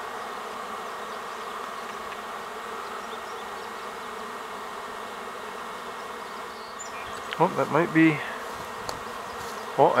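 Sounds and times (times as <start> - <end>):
swarm of bees buzzing: 0.0 - 10.0.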